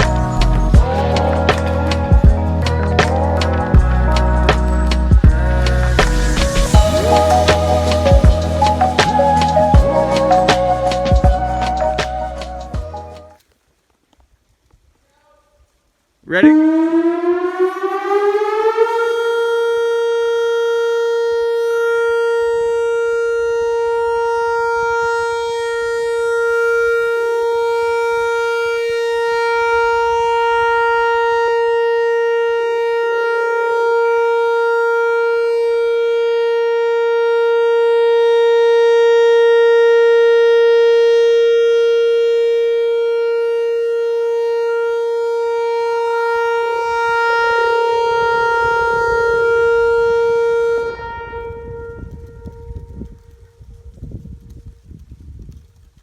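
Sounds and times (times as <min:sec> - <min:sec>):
tornado siren steady tone: 0:00.0 - 0:13.4, 0:16.3 - 0:56.0.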